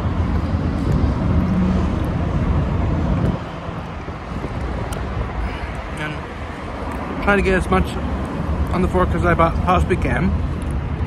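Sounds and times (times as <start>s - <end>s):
outdoor background: 0.0s - 11.0s
vehicle engine rumbling: 0.0s - 11.0s.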